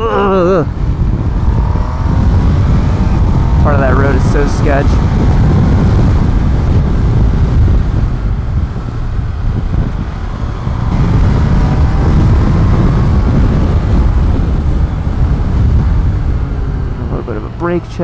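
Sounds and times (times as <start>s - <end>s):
motorcycle engine running: 0.0s - 18.0s
wind rumble on microphone: 0.0s - 18.0s.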